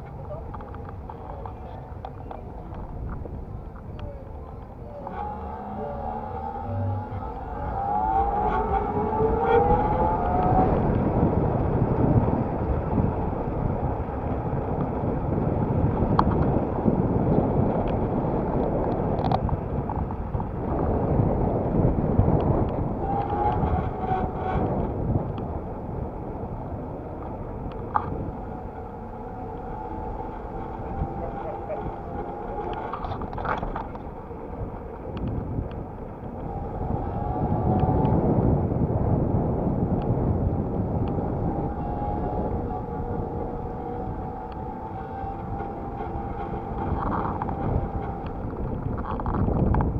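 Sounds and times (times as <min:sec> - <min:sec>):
bicycle road noise: 0:00.0 - 0:49.9
rising whine: 0:00.0 - 0:49.9
wind rumbling on microphone: 0:00.0 - 0:49.9.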